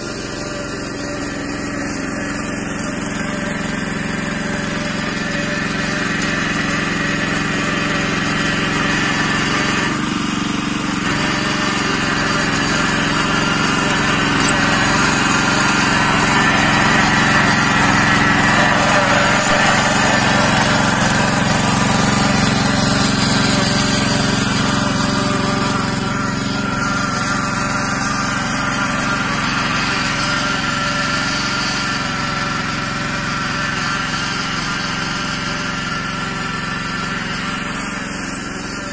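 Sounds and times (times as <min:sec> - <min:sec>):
walking tractor engine running: 0:00.0 - 0:38.9.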